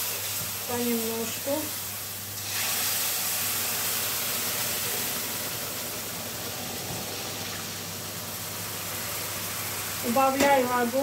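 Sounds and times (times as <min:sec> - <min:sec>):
syrup sizzling in hot pan: 0:00.0 - 0:10.9.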